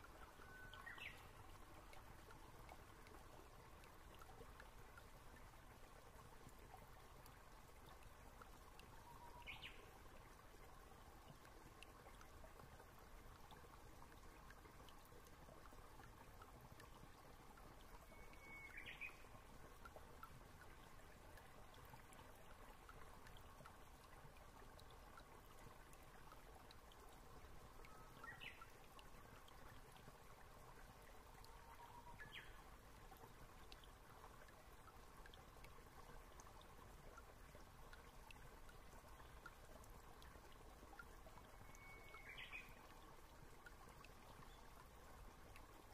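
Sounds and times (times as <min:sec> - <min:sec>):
faint steady hiss: 0:00.0 - 0:45.9.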